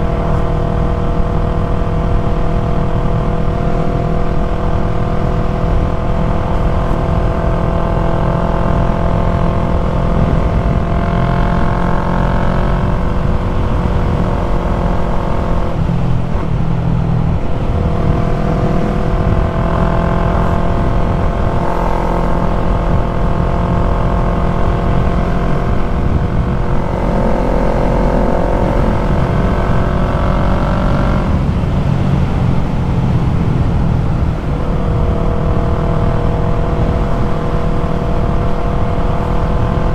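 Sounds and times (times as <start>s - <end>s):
motorcycle engine running: 0.0s - 39.9s
wind rushing: 5.9s - 39.9s.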